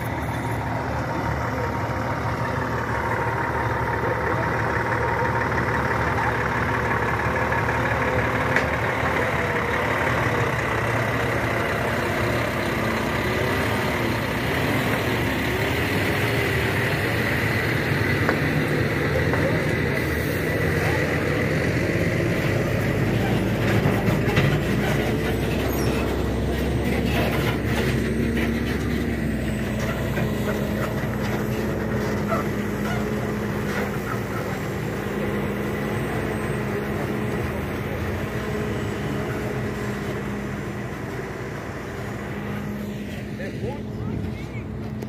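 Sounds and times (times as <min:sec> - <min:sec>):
diesel truck engine under load: 0:00.0 - 0:45.0.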